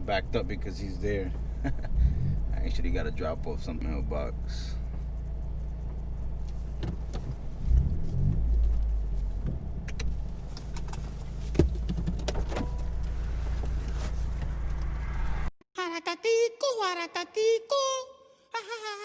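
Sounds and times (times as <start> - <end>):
low exhaust drone: 0.0 - 15.5.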